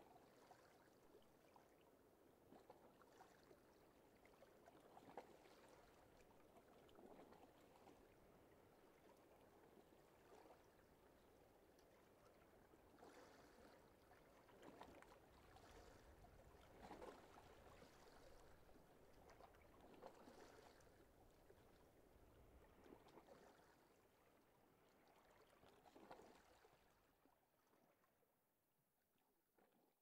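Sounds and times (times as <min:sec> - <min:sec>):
water lapping and sloshing: 0:00.0 - 0:28.2.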